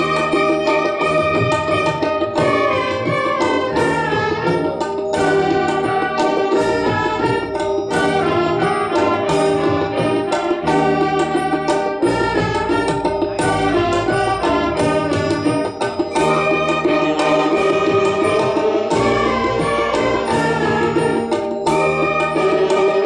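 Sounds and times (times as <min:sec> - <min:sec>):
wind band playing: 0:00.0 - 0:23.0.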